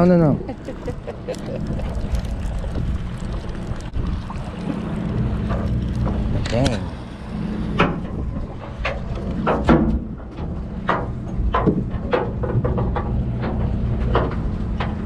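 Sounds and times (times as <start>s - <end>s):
boat engine humming: 0.0s - 15.0s
wind on microphone: 0.0s - 15.0s.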